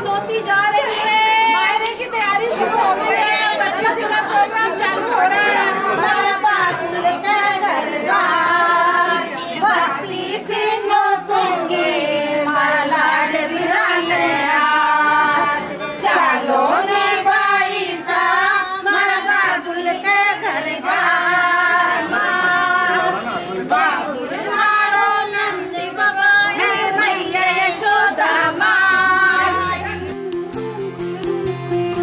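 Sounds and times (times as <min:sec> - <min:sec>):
women singing together: 0:00.0 - 0:30.1.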